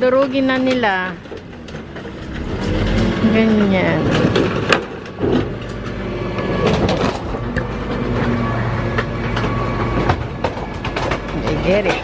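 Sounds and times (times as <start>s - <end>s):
furniture cracking and banging: 0.0s - 12.0s
garbage truck engine hum: 0.0s - 12.0s.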